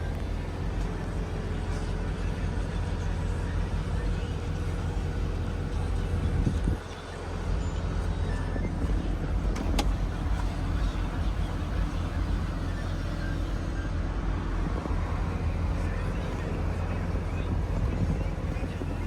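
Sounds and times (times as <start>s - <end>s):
car exhaust deep rumble: 0.0s - 19.0s.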